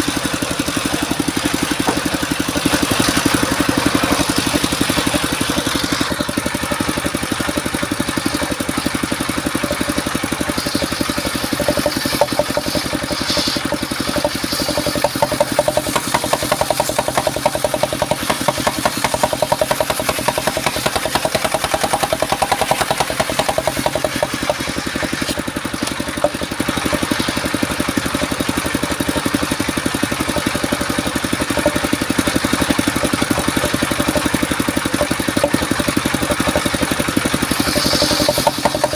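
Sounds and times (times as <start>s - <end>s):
saw cutting wood: 0.0s - 38.9s
sawmill engine running: 0.0s - 38.9s.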